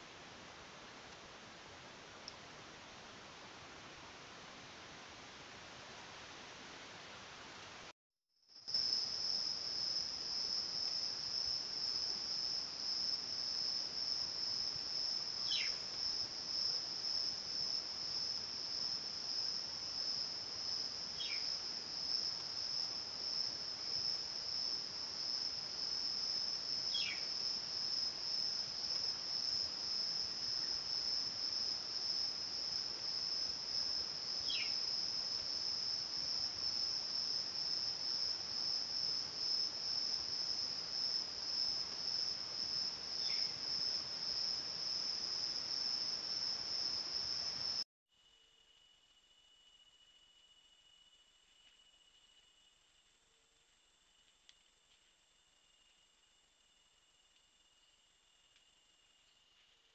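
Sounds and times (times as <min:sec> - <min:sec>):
insects chirping chorus: 0:08.5 - 0:59.8.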